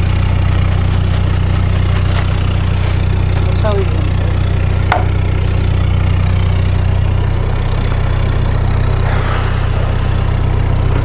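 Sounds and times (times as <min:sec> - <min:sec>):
diesel engine running at low revs: 0:00.0 - 0:11.0.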